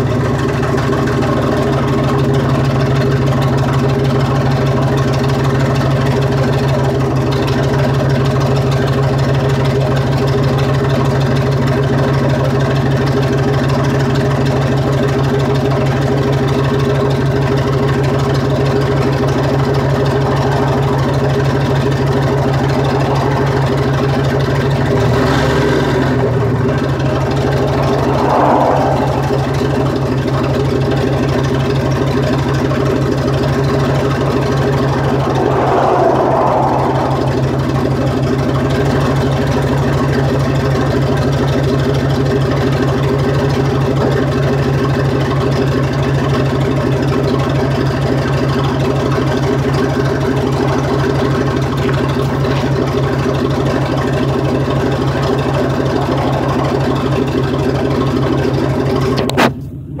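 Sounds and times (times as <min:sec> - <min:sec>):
pickup engine idling: 0:00.0 - 0:35.2, 0:37.2 - 1:00.0.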